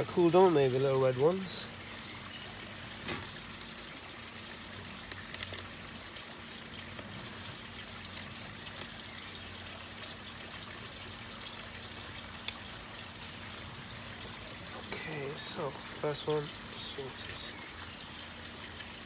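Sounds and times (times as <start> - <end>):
water running and trickling: 0.0 - 19.0.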